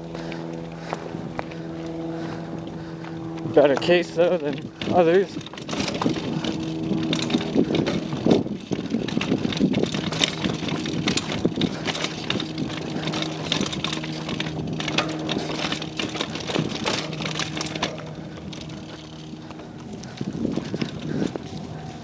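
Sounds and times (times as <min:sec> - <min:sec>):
steady low hum: 0:00.0 - 0:22.0
mountain bike rattling over rocks: 0:03.4 - 0:22.0.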